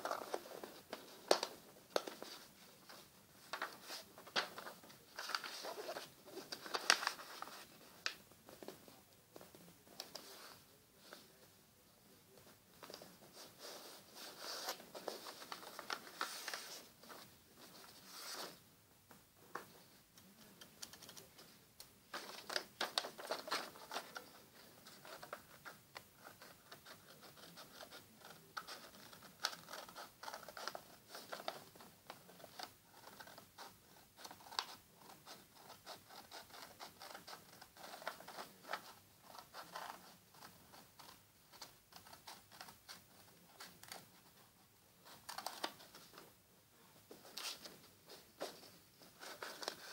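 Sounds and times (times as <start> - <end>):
paper rustling: 0.0 - 11.4, 12.4 - 18.6, 19.4 - 49.9.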